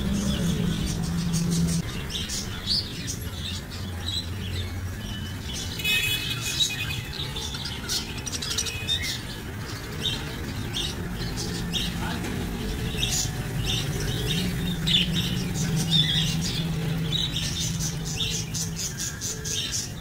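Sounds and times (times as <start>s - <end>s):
parakeets chirping and chattering: 0.0s - 20.0s.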